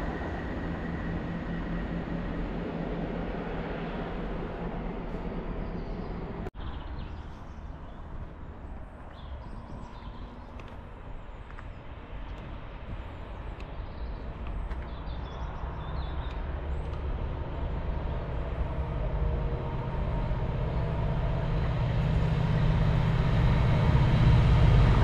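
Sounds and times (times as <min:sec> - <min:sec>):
diesel locomotive rumble: 0:00.0 - 0:06.9, 0:07.8 - 0:25.0.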